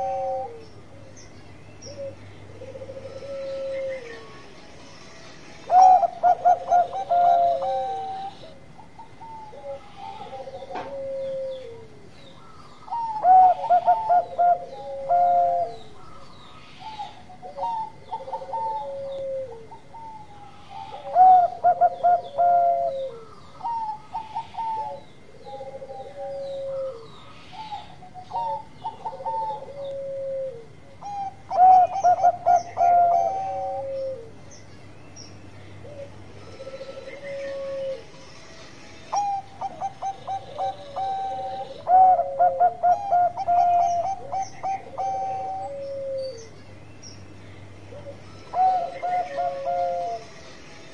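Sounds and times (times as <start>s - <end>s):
dove cooing: 0.0s - 1.2s, 1.9s - 4.4s, 5.7s - 34.5s, 35.8s - 38.2s, 39.1s - 46.5s, 47.9s - 50.4s.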